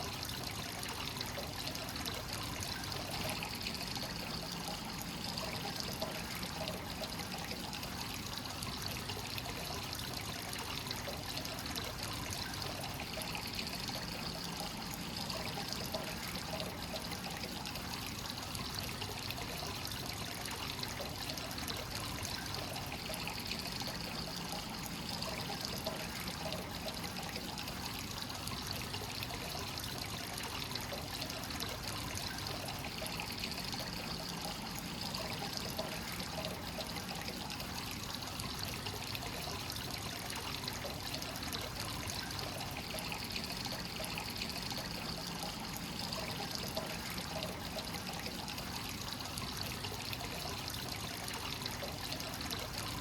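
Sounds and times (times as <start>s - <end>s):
water pouring into a bath: 0.0s - 53.0s.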